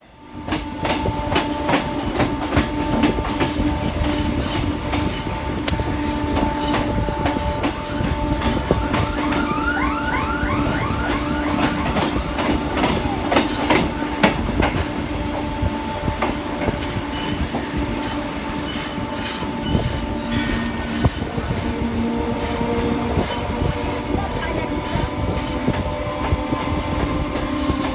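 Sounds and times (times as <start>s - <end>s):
train rumble and hum: 0.0s - 27.9s
train wheels clicking on rail joints: 0.1s - 9.5s, 10.2s - 27.9s.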